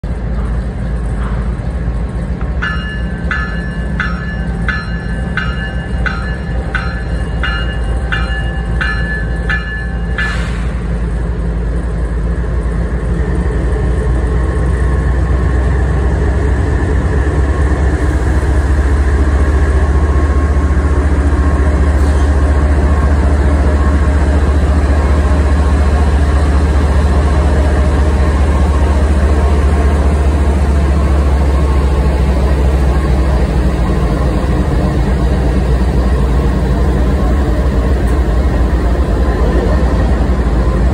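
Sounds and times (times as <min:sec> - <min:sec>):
deep rumble of diesel engines: 0:00.0 - 0:40.9.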